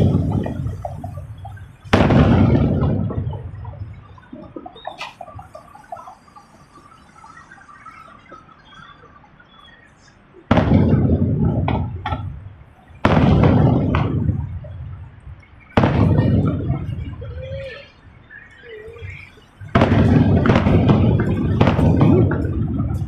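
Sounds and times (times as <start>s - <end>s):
small firework cracks: 0.0s - 6.5s, 10.5s - 23.0s
fireworks booming: 0.0s - 9.0s, 9.7s - 23.0s.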